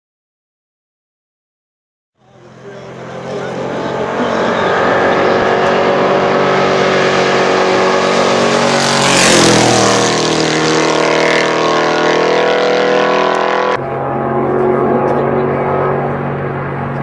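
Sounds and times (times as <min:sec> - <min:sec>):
race truck passing at full throttle: 0:02.2 - 0:17.0.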